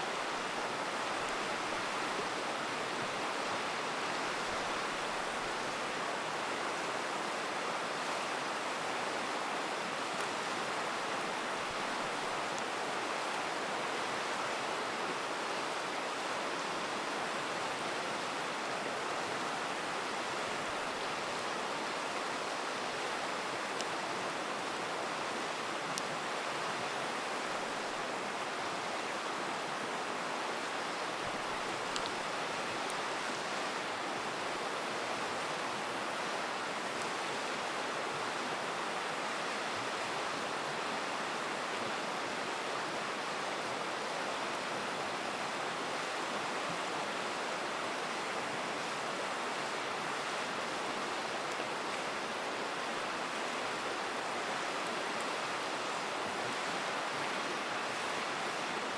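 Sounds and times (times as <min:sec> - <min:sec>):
river rushing: 0:00.0 - 0:58.9.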